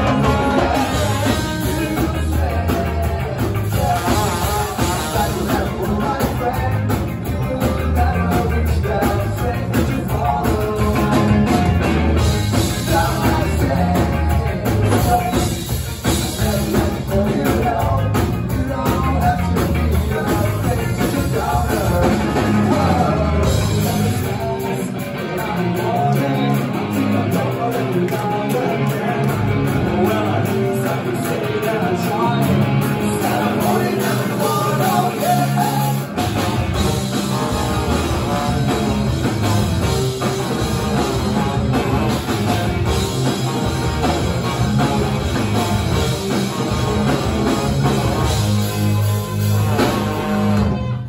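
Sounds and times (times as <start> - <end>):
electric guitar: 0.0 - 51.0
person singing: 0.0 - 51.0
ska-punk band playing live: 0.0 - 51.0.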